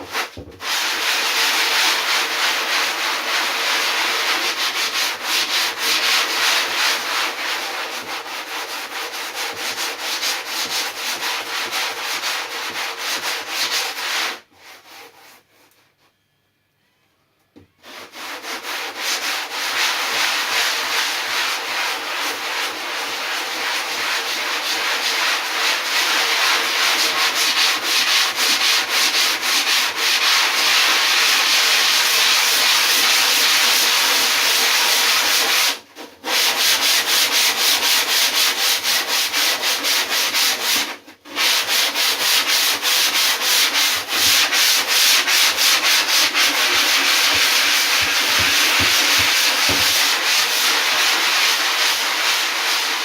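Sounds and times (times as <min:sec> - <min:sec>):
sanding foam rasping: 0:00.0 - 0:15.4, 0:17.8 - 0:53.0.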